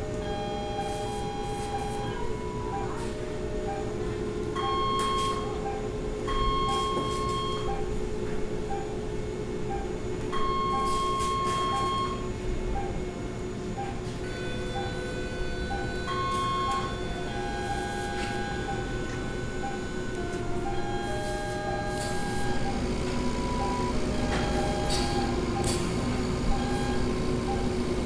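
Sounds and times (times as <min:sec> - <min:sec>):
short machine beeps: 0:00.2 - 0:04.0, 0:04.6 - 0:07.9, 0:09.7 - 0:13.0, 0:13.8 - 0:27.8.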